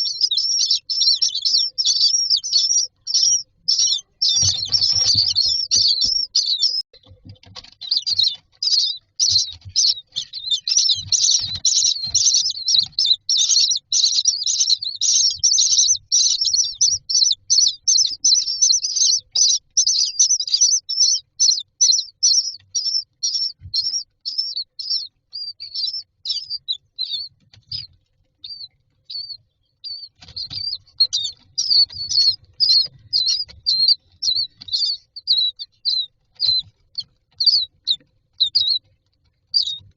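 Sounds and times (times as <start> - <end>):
chicks begging chirps: 0.0 - 39.9.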